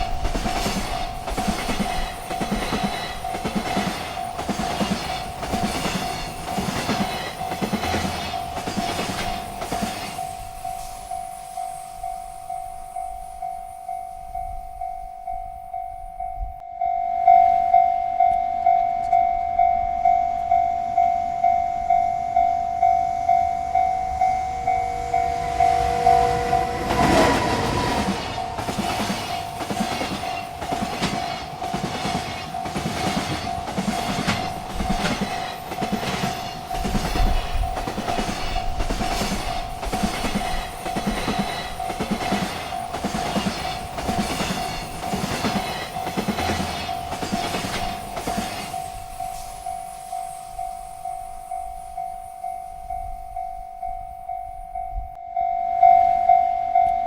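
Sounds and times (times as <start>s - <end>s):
train wheels clacking on rails: 0.0s - 16.0s, 21.4s - 54.9s
railroad crossing bell ringing: 0.0s - 57.0s.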